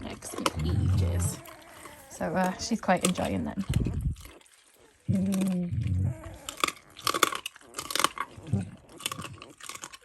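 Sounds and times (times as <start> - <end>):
dog crunching bones: 0.0 - 10.0.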